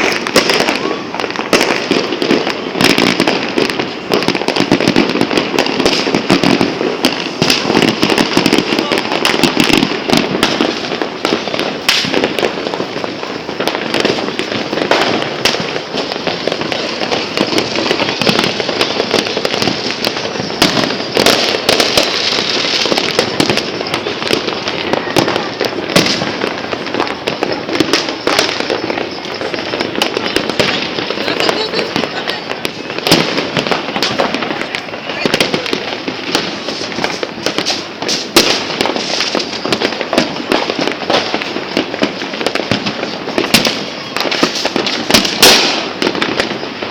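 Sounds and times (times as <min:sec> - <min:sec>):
fireworks crackling: 0:00.0 - 0:46.9
sharp firework bangs: 0:00.0 - 0:46.9.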